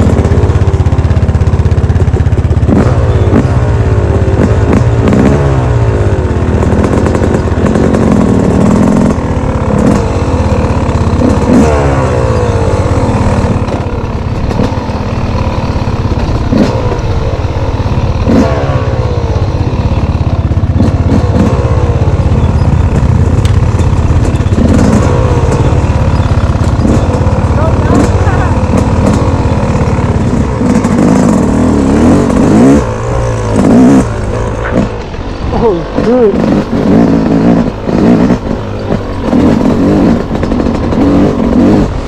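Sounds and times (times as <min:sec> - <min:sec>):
motorbike engine revving: 0:00.0 - 0:42.0.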